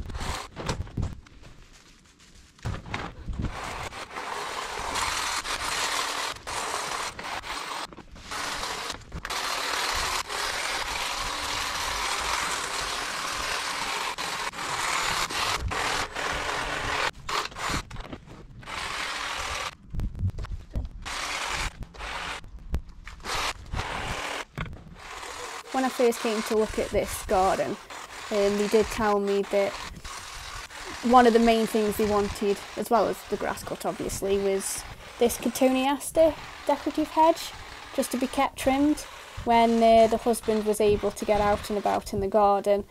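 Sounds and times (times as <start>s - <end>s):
hedge trimmer cutting foliage: 3.5s - 18.0s, 18.6s - 19.8s, 21.0s - 22.4s, 23.0s - 42.9s.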